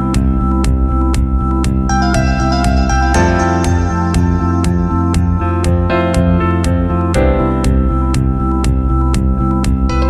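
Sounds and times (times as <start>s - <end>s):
keyboard chords over steady beat: 0.0s - 10.0s.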